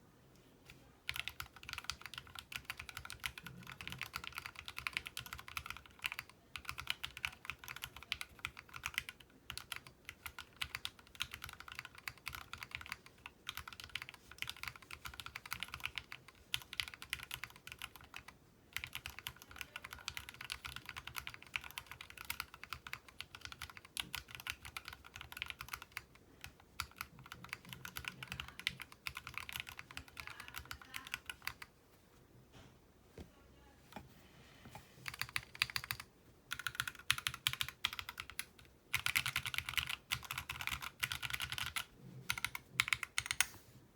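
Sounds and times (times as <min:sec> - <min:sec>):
mechanical keyboard typing: 0:01.0 - 0:31.7, 0:35.0 - 0:43.6.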